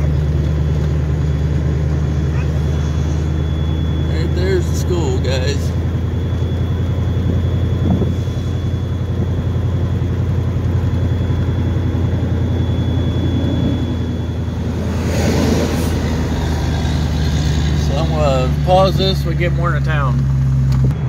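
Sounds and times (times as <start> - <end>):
car engine cruising: 0.0 - 21.0
road noise: 0.0 - 21.0.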